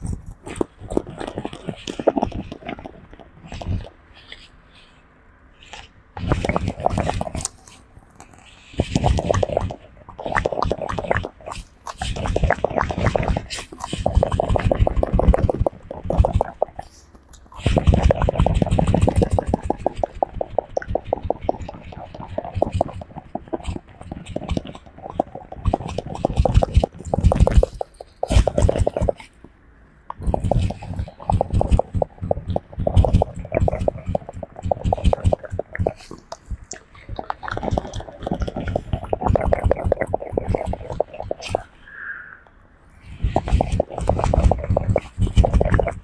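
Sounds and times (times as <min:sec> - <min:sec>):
fingers scratching and rubbing: 0:05.7 - 0:29.4, 0:30.1 - 0:41.7, 0:43.1 - 0:46.0.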